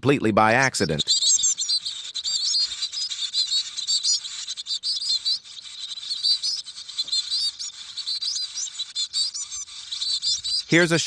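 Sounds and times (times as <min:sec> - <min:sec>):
bird chicks chirping: 0:00.4 - 0:11.0.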